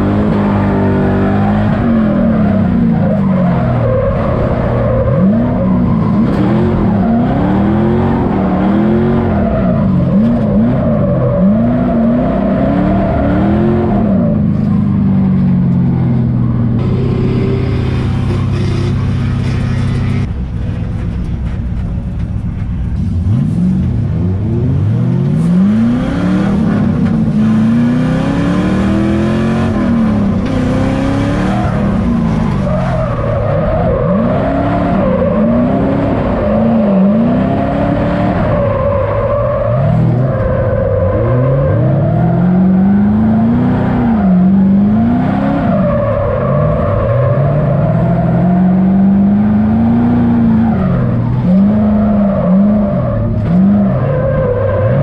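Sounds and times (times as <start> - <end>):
car engine revving: 0.0 - 20.3, 22.1 - 55.0.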